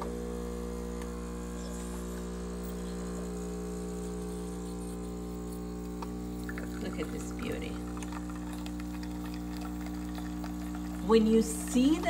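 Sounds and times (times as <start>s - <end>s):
espresso machine pump humming: 0.0s - 12.0s.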